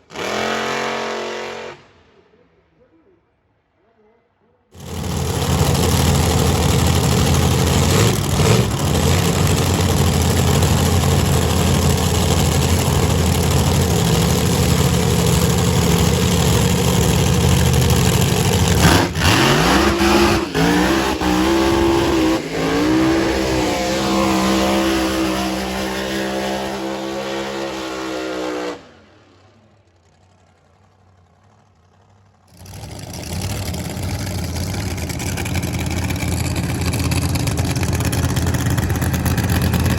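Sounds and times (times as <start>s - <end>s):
drag racing car engine roaring: 0.0s - 2.2s, 4.7s - 39.9s.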